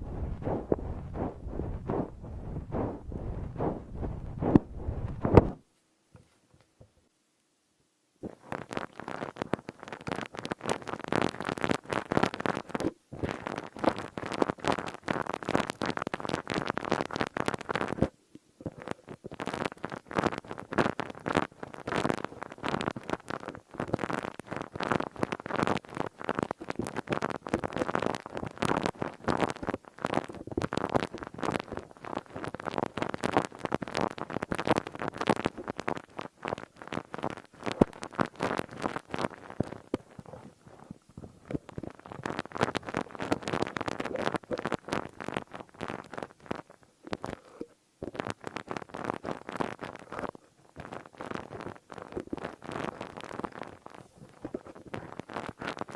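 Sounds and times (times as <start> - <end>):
crinkly material crackling: 0.0 - 6.8, 8.2 - 55.9.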